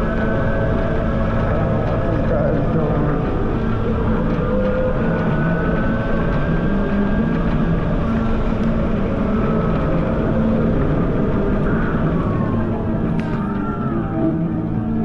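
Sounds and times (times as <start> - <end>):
faint whining tones: 0.0 - 15.0.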